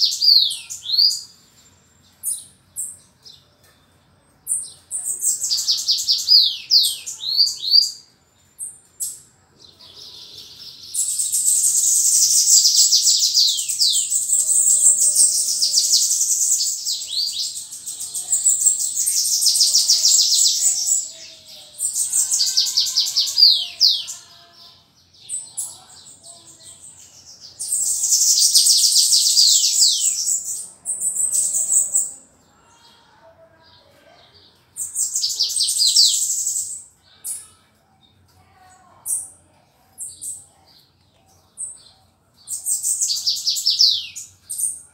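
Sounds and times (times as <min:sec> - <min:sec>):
bird singing trilled phrases: 0:00.0 - 0:33.0, 0:34.8 - 0:37.4, 0:42.5 - 0:44.8.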